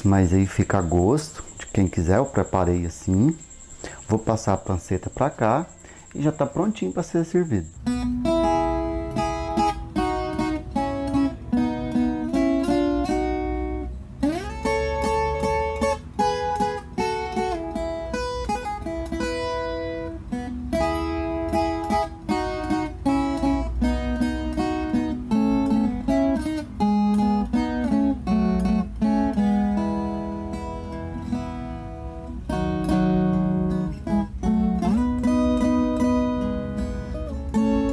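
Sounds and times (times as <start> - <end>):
plucked guitar melody: 5.2 - 37.9.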